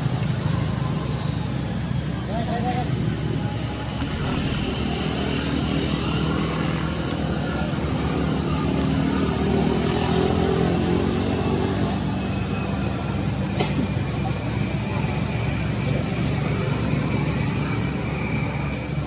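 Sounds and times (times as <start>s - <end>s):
engine rumble: 0.0s - 19.0s.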